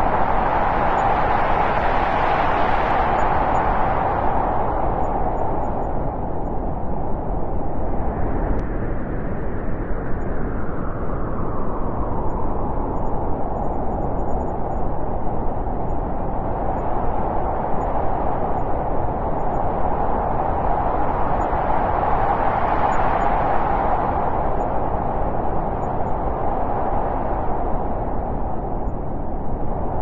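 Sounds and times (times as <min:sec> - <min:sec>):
wind rushing: 0:00.0 - 0:30.0.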